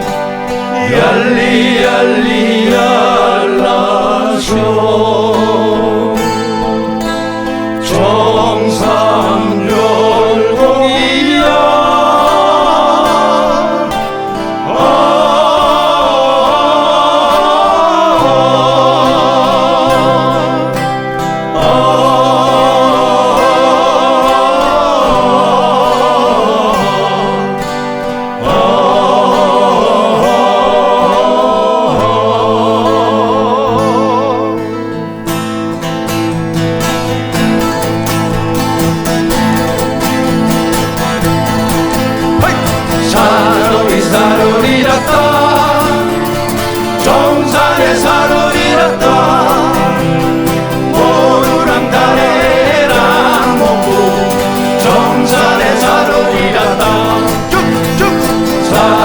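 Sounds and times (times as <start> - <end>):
male choir singing in harmony: 0.0 - 59.0
strummed acoustic guitar: 0.0 - 59.0.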